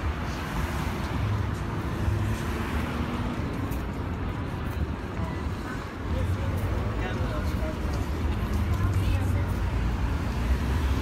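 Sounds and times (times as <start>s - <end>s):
traffic rumble of cars and buses: 0.0s - 11.0s.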